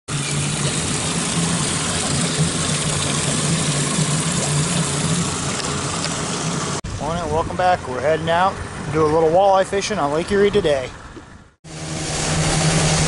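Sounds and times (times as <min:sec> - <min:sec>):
outboard motors idling: 0:00.1 - 0:13.0
water churning and splashing: 0:00.1 - 0:13.0.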